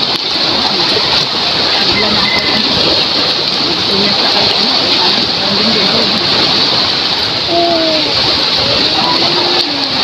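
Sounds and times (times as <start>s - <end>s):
choppy water washing around boats: 0.0s - 10.0s.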